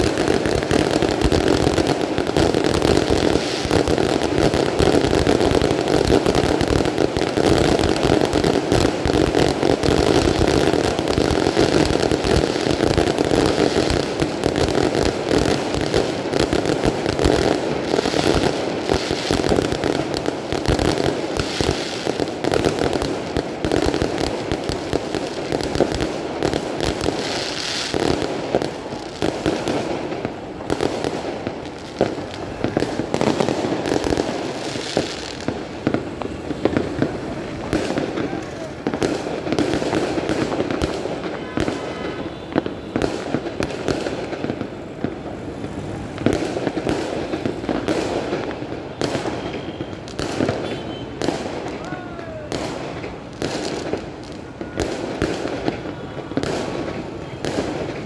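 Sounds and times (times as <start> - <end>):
fireworks and firecrackers banging: 0.0 - 58.0.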